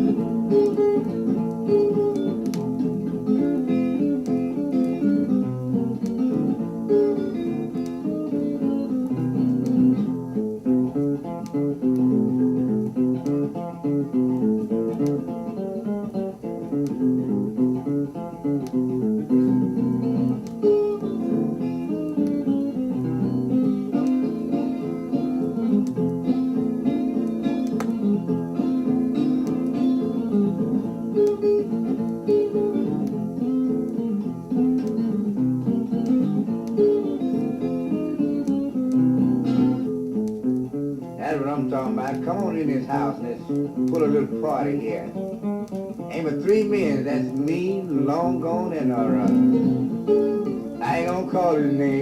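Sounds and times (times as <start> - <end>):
blues guitar playing: 0.0 - 52.0.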